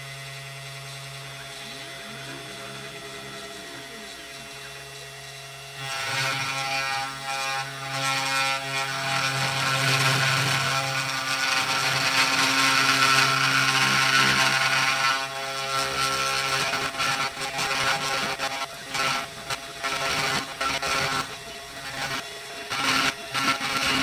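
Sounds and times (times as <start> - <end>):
bit cutting hardwood: 0.0 - 24.0
router motor humming: 0.0 - 24.0.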